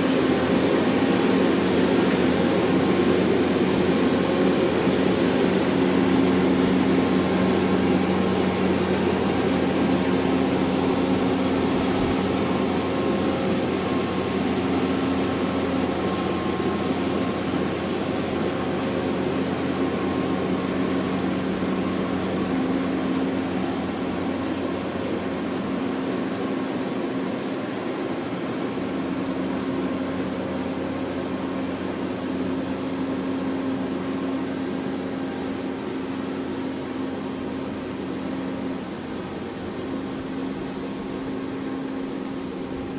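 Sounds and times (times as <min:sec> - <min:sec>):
heavy truck engine droning: 0:00.0 - 0:42.9.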